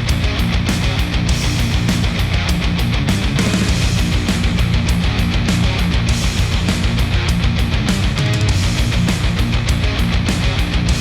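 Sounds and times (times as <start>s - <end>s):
rock music through headphone: 0.0s - 11.0s.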